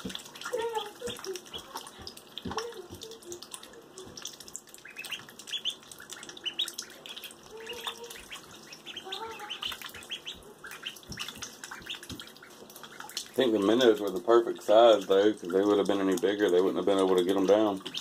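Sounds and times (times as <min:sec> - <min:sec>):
ducklings peeping: 0:00.0 - 0:18.0
small water splashes: 0:00.0 - 0:18.0.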